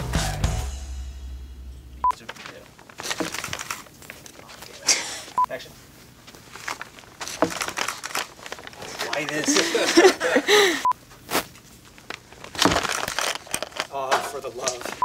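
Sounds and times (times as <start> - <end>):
rustling and handling noises: 2.2 - 15.0.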